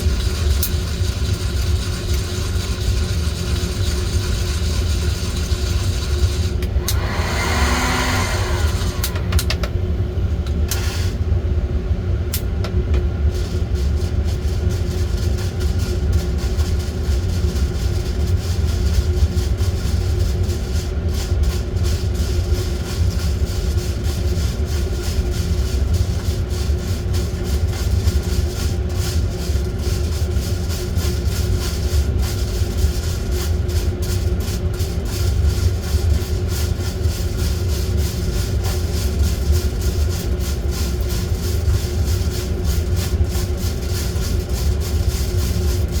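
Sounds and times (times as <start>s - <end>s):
coffee roaster droning: 0.0s - 46.0s
motor or fan hum: 0.0s - 46.0s.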